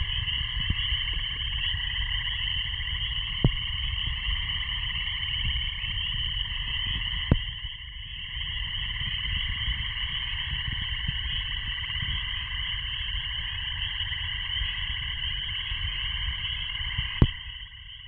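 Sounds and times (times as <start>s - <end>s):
chorus of frogs calling: 0.0s - 18.0s.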